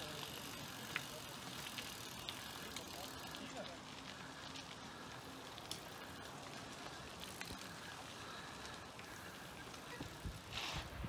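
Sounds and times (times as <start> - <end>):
bicycle tyres hissing on asphalt: 0.0 - 11.0
light bicycle clicks: 0.0 - 11.0.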